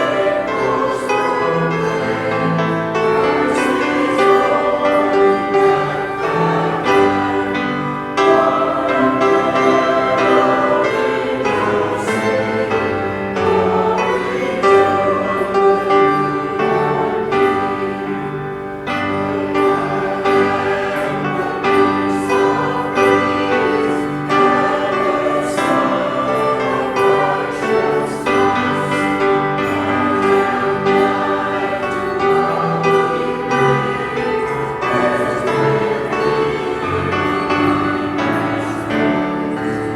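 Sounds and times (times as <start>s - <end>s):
choir singing a carol: 0.0s - 39.9s
instrumental accompaniment: 0.0s - 39.9s.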